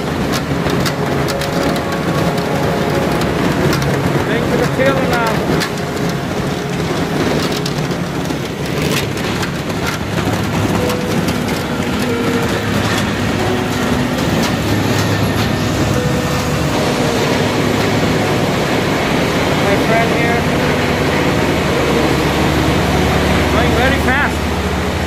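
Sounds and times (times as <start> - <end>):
conveyor loader rattling: 0.0 - 25.0.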